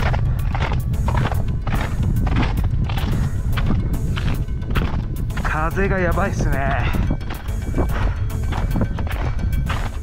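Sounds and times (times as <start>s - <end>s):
boots crunching on snow: 0.0s - 10.0s
wind buffeting microphone: 0.0s - 10.0s.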